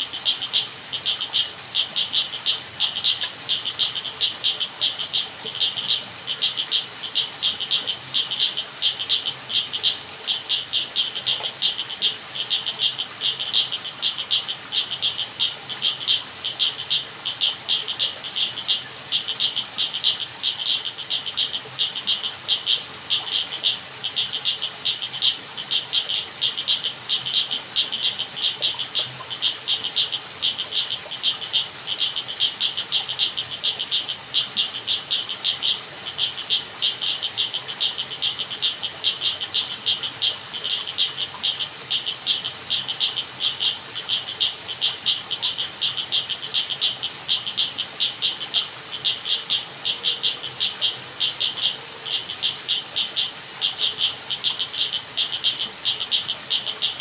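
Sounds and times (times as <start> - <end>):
frog chorus: 0.0 - 57.0.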